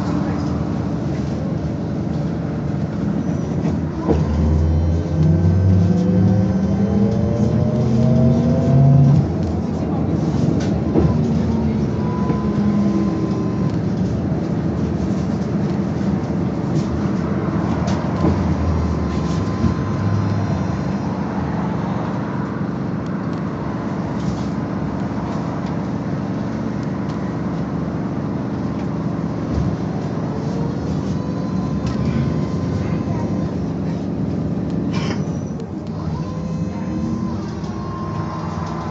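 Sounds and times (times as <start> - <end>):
bus tyres and body rumbling: 0.0 - 38.9.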